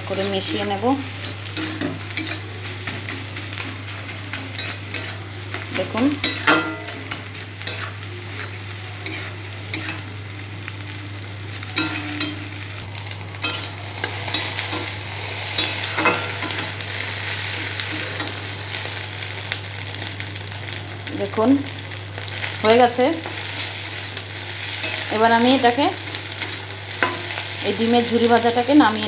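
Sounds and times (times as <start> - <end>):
egg sizzling in a pan: 0.0 - 29.0
low steady hum: 0.0 - 29.0.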